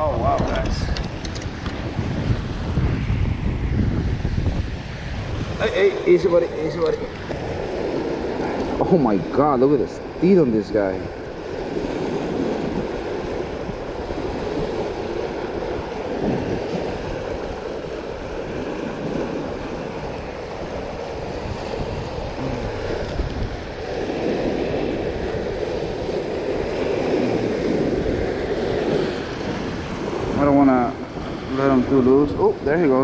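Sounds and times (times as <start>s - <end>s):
sea surf on rocky shore: 0.0s - 33.0s.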